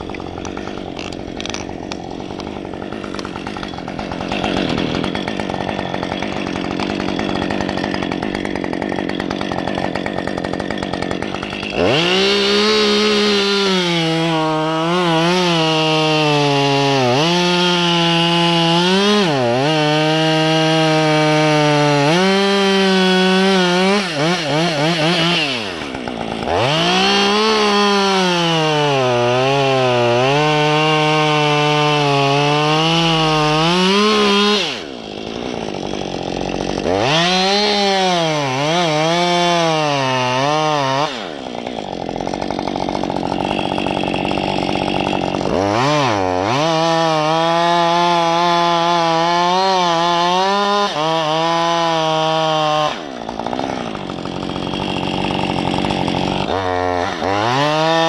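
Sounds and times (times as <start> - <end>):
chainsaw cutting limbs: 0.0 - 58.0.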